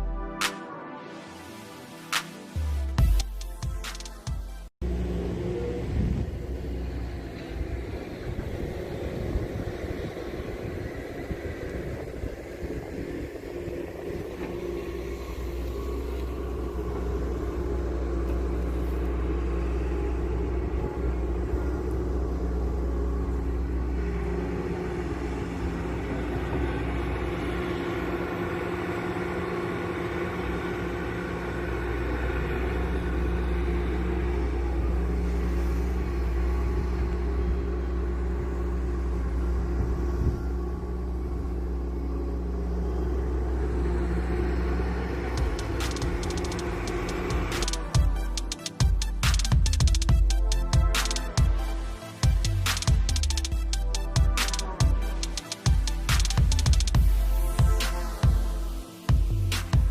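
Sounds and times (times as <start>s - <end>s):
excavator diesel engine rumbling: 4.8s - 59.9s.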